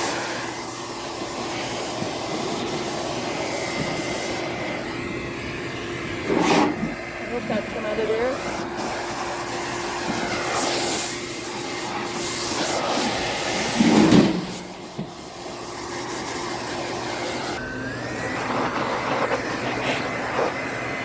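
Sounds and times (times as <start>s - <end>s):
dog grooming dryer whining: 0.0s - 21.0s.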